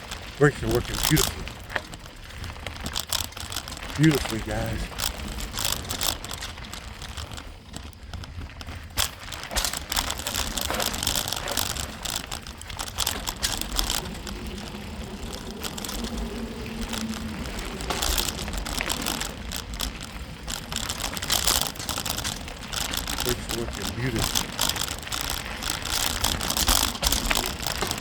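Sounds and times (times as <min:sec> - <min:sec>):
bike rattling: 0:00.0 - 0:28.0
tyres crunching on dirt: 0:00.0 - 0:28.0.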